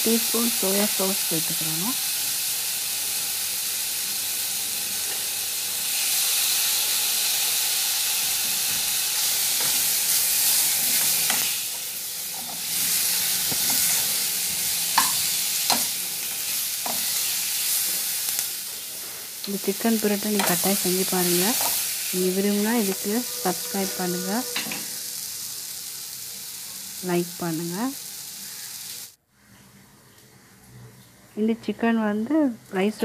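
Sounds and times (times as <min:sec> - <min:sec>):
chicken sizzling in a pan: 0:00.0 - 0:29.2.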